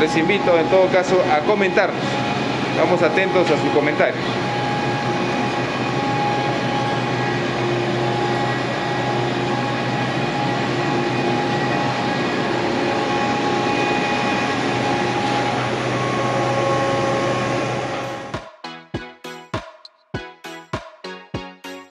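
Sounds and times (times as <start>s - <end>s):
air compressor droning: 0.0s - 18.4s.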